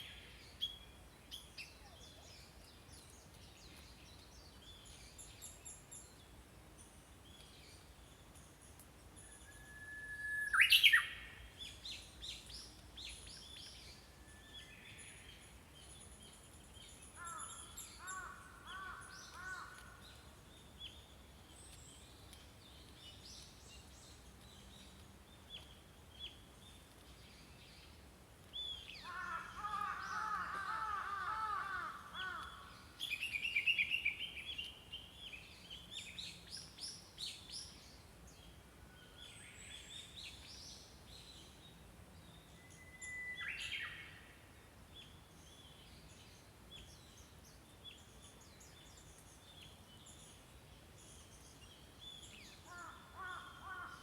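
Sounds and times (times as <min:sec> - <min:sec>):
small songbirds singing: 0:00.0 - 0:09.6, 0:10.4 - 0:54.0
faint outdoor background noise: 0:00.0 - 0:54.0.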